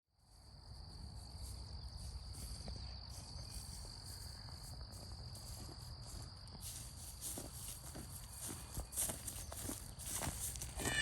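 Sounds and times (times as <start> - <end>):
crickets trilling: 0.3 - 11.0.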